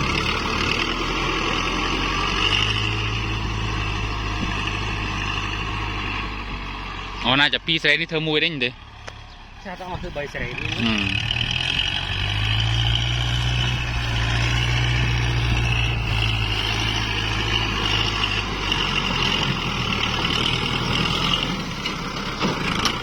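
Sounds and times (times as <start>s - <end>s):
tractor diesel engine droning: 0.0s - 23.0s.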